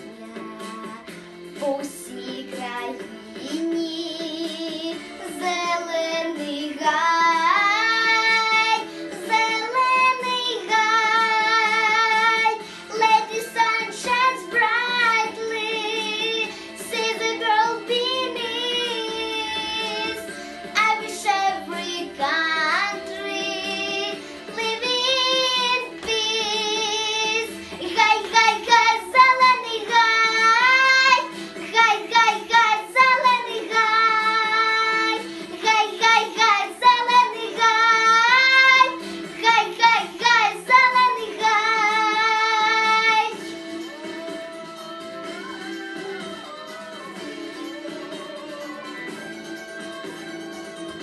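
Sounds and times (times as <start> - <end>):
girl singing pop song: 0.0 - 51.0
recorded backing track: 0.0 - 51.0.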